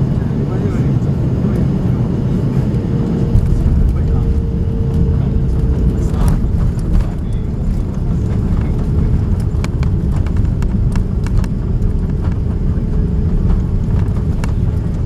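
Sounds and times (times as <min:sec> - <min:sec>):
wheels rumbling on runway: 0:00.0 - 0:15.0.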